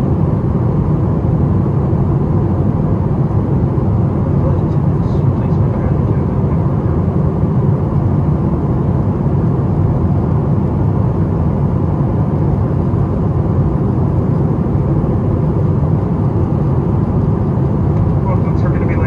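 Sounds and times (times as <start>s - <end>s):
airplane cabin drone: 0.0s - 19.0s.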